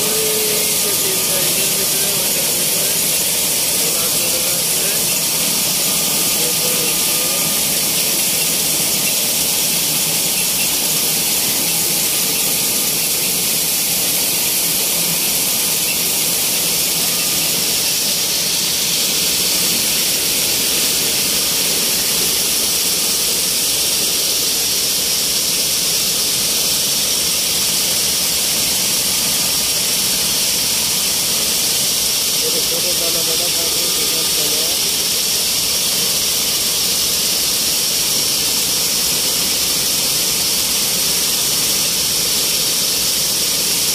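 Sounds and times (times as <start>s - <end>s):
flour mill machinery hissing: 0.0s - 43.9s.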